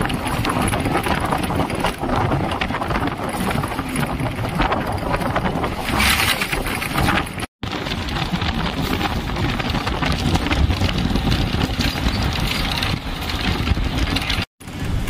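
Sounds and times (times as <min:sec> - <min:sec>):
vehicle road noise: 0:00.0 - 0:15.0
wind rushing over microphone: 0:00.0 - 0:15.0.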